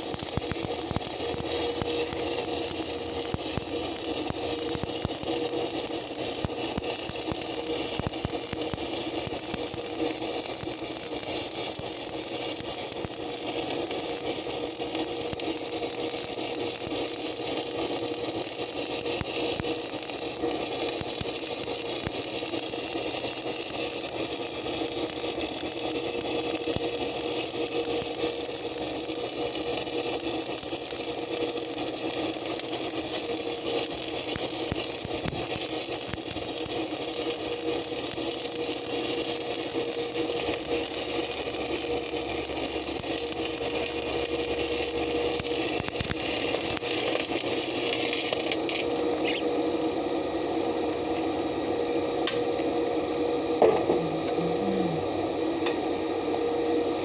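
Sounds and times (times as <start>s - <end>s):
welding arc crackling hiss: 0.0s - 52.7s, 53.6s - 56.1s.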